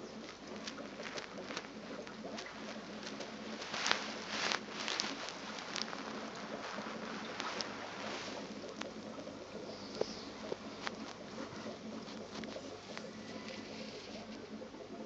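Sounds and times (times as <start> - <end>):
aquarium water bubbling: 0.0 - 15.0
faint low hum: 0.0 - 15.0
small clicks and ticks: 0.0 - 15.0.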